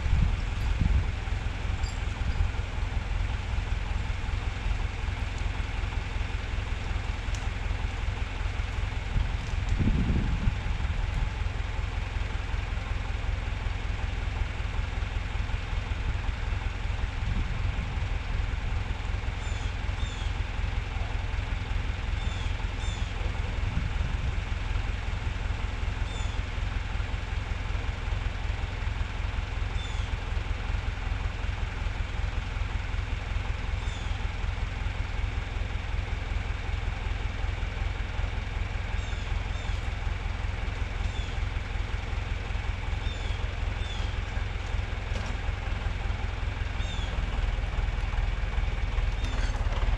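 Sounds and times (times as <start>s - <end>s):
tractor engine rumbling: 0.0s - 49.9s.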